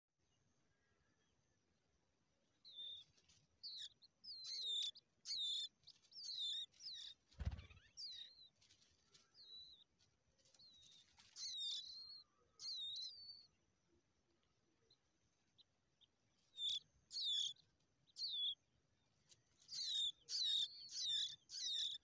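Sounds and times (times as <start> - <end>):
bird chicks chirping: 1.8 - 22.0.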